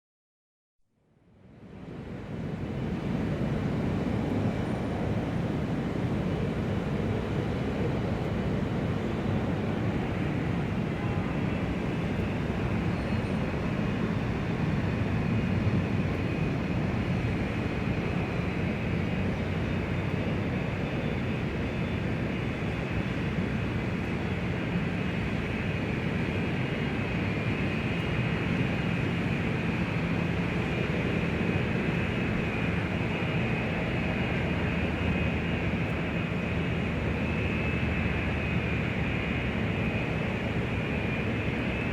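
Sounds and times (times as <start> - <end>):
airport ambience rumble and hiss: 1.3 - 41.9.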